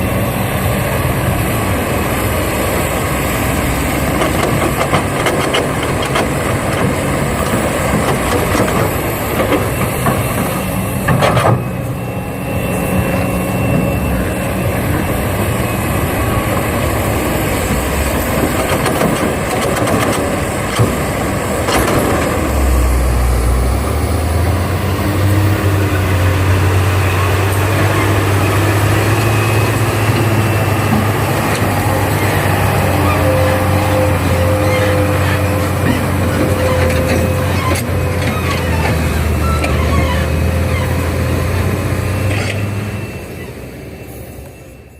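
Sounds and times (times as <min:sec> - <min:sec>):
deep engine hum: 0:00.0 - 0:43.2
engine running: 0:00.0 - 0:44.9.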